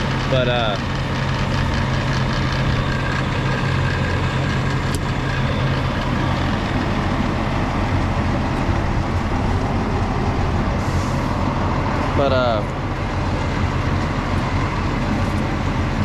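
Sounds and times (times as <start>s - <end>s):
farm machinery engine running: 0.0s - 16.0s.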